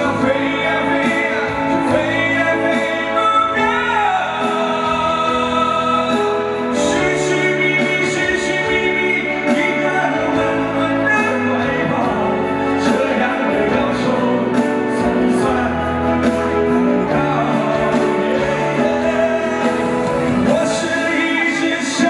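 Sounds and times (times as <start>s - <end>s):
instrumental accompaniment: 0.0s - 22.0s
man singing into a microphone: 0.0s - 22.0s.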